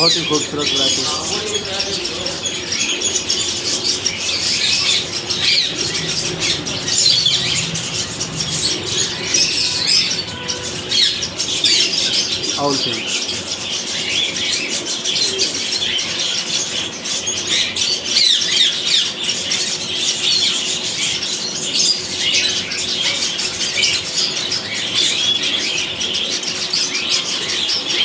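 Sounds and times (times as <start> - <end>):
finches chirping: 0.0 - 28.0.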